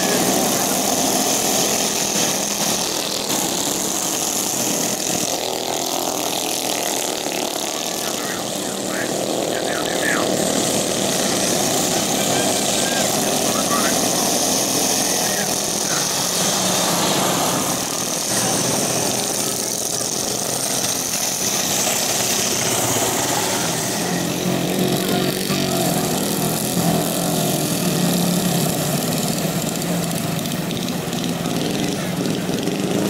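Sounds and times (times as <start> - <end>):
engines idling: 0.0 - 33.0
lawnmower engines whining: 0.0 - 33.0.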